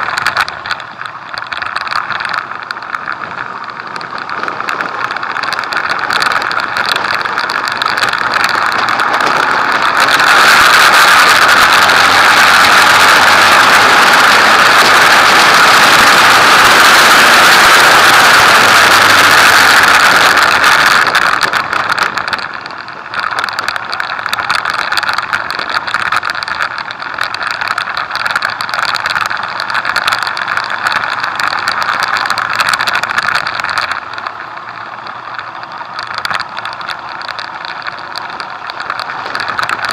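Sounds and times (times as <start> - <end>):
wind rushing over microphone: 0.0 - 35.0
motorcycle engine running: 0.0 - 39.9.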